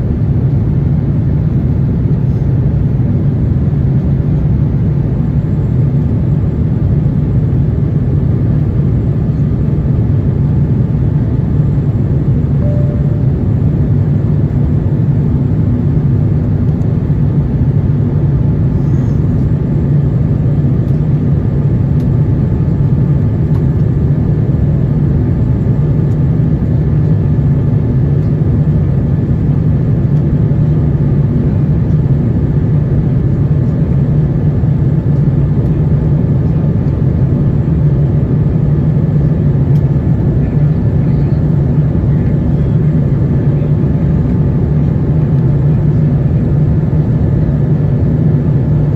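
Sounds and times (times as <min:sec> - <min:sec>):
airliner cabin drone: 0:00.0 - 0:48.9.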